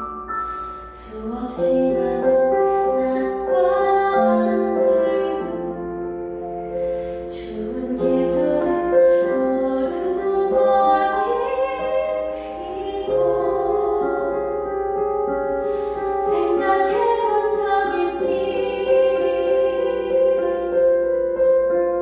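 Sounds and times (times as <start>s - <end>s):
piano accompaniment: 0.0s - 22.0s
woman singing a ballad: 0.9s - 21.5s.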